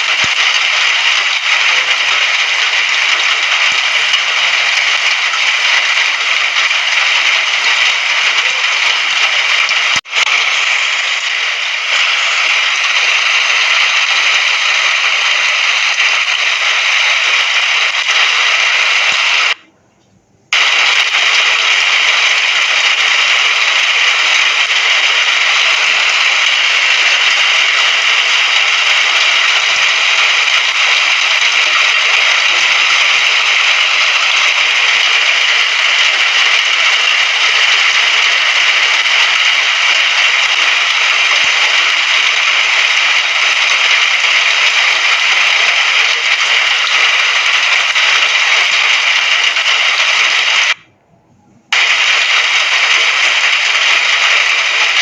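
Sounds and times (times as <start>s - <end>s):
heavy rain hissing: 0.0s - 19.6s, 20.5s - 50.8s, 51.7s - 55.0s.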